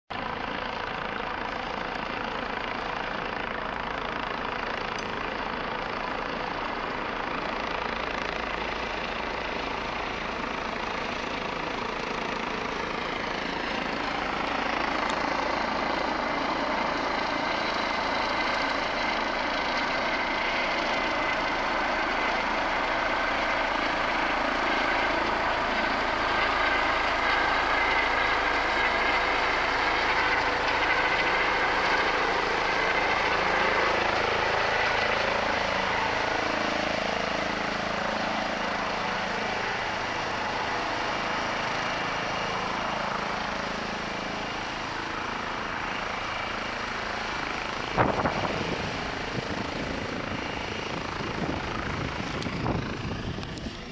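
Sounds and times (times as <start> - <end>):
helicopter rotor and turbine: 0.1 - 53.9.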